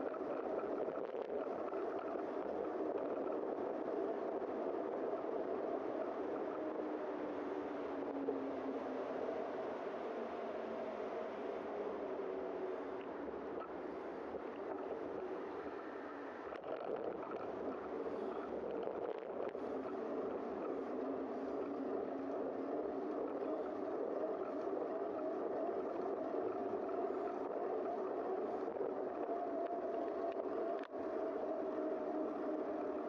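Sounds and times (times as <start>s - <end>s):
wind over camera: 0.0s - 33.0s.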